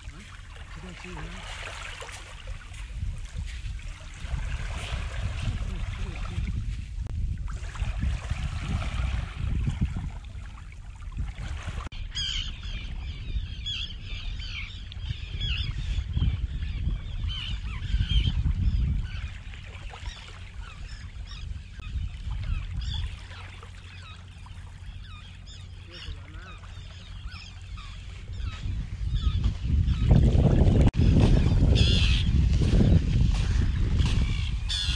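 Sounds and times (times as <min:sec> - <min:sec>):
shore birds calling: 0:00.0 - 0:06.6, 0:08.4 - 0:34.9
small waves lapping on shore: 0:00.0 - 0:12.0, 0:17.4 - 0:34.9
wind buffeting microphone: 0:02.1 - 0:34.9.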